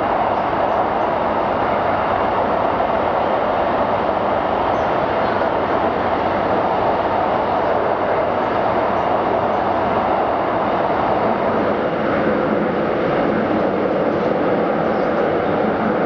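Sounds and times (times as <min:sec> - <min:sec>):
train running noise inside carriage: 0:00.0 - 0:16.0.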